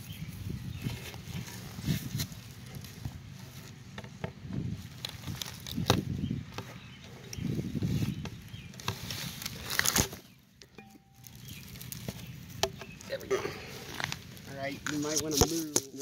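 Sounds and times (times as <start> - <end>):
rustling pine needles: 0.0 - 3.9, 4.7 - 16.0.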